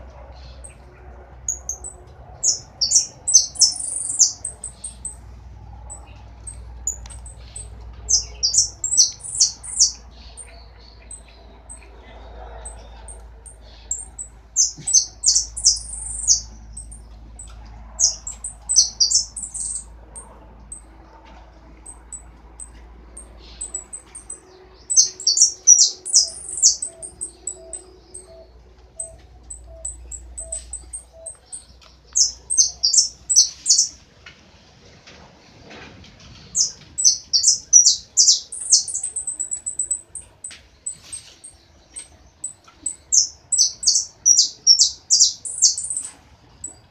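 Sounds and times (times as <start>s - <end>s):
songbird singing: 0.0s - 34.0s, 36.2s - 46.9s
bird chips: 1.5s - 34.0s, 36.4s - 46.9s.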